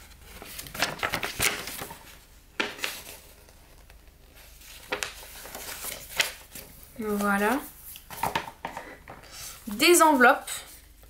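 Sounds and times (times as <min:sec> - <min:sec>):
paper rustling and crackling: 0:00.0 - 0:08.9.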